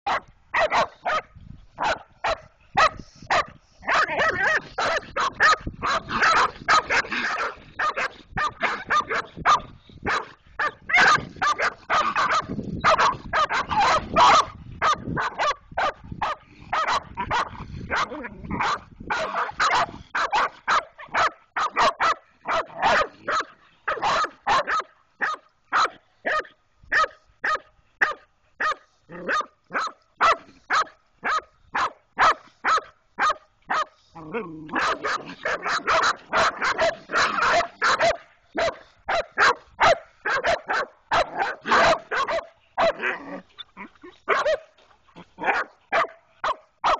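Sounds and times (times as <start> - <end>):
dogs barking and baying: 0.1 - 46.9.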